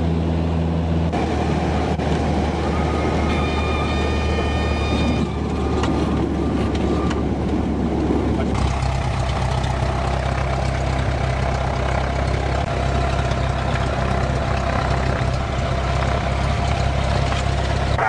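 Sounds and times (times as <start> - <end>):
airplane piston engine running: 1.1 - 18.0.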